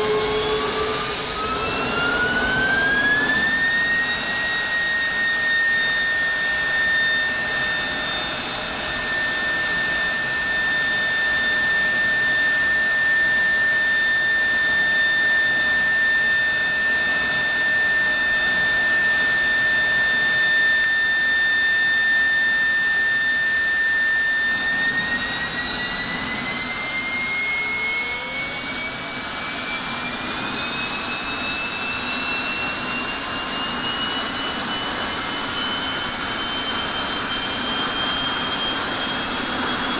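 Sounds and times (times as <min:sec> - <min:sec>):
jet engine roaring and whining: 0:00.0 - 0:39.9.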